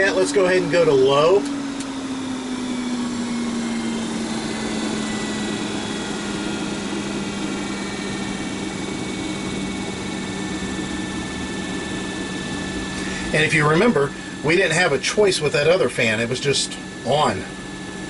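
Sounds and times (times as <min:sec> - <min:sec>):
roof vent fan spinning down: 0:00.0 - 0:18.0.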